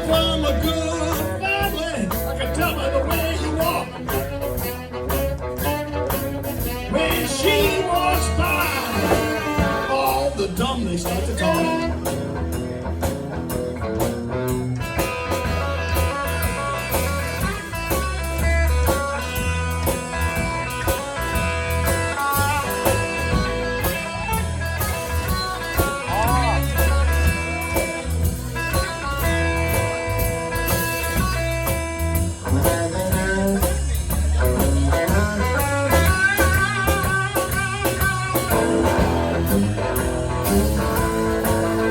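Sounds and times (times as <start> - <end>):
blues band playing: 0.0 - 41.9.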